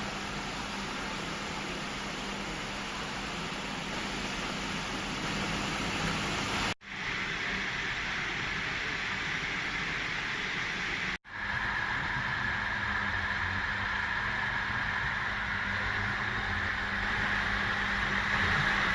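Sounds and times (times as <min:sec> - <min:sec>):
washing machine hissing and humming: 0:00.0 - 0:18.9.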